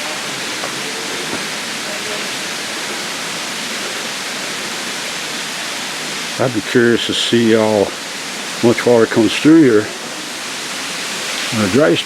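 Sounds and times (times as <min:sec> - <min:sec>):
waterfall and stream flowing: 0:00.0 - 0:12.0.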